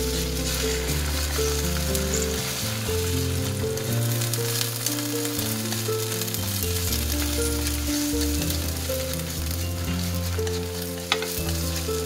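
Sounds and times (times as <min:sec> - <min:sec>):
chopsticks stirring in pan: 0:00.0 - 0:12.0
eggs sizzling in hot oil: 0:00.0 - 0:12.0.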